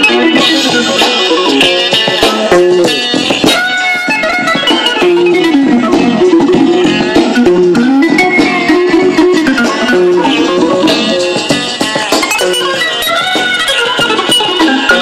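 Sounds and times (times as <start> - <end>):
soul-jazz record playing: 0.0 - 15.0.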